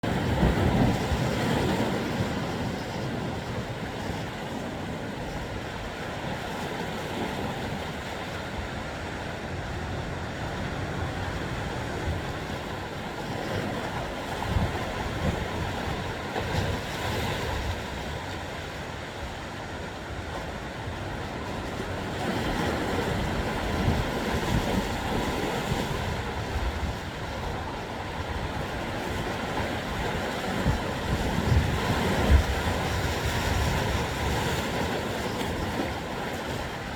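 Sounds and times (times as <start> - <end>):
sea surf washing: 0.0 - 36.9
wind buffeting microphone: 0.0 - 36.9.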